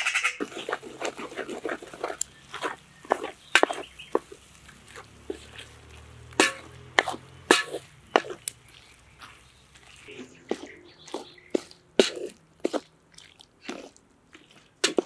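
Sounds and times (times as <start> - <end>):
wooden spatula scraping metal pan: 0.3 - 12.8, 14.8 - 15.0.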